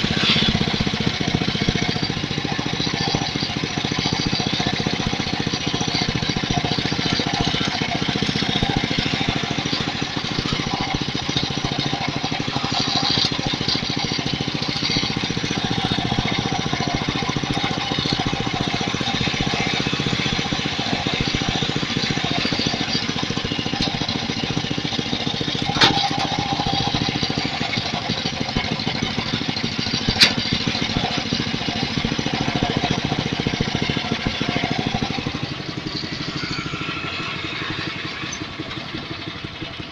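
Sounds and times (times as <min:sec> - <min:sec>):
rapid knocking of belt pulley: 0:00.0 - 0:39.9
small engine idling: 0:00.0 - 0:39.9.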